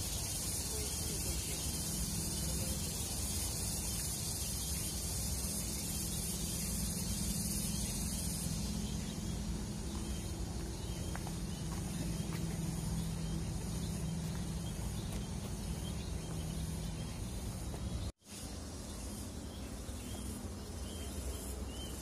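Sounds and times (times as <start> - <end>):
low steady drone: 0.0 - 17.7
high insect hum: 0.0 - 22.0.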